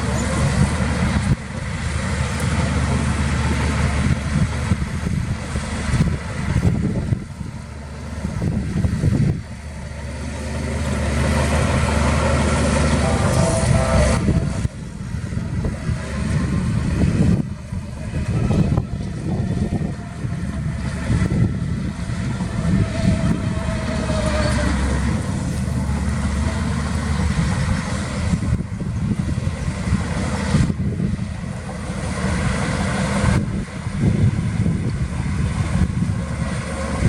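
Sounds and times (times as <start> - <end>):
heavy diesel engines under load: 0.0 - 37.0.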